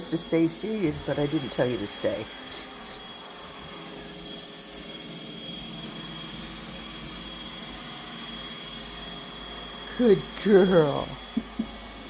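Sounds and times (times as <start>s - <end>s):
robot vacuum motor whirring: 0.0s - 12.0s.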